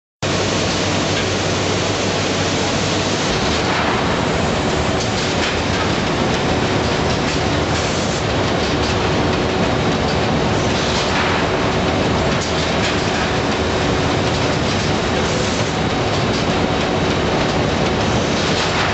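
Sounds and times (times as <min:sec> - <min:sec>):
machine clatter and hum: 0:00.2 - 0:18.9.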